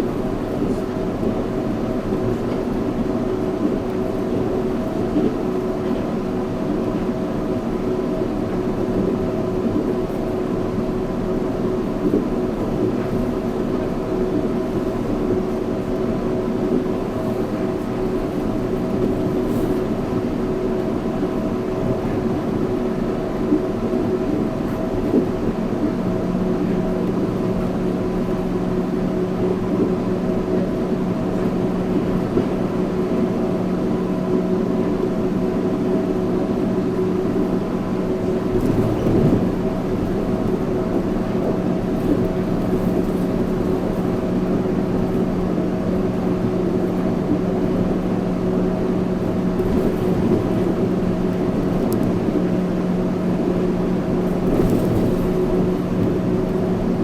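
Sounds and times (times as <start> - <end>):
train humming: 0.0 - 57.0.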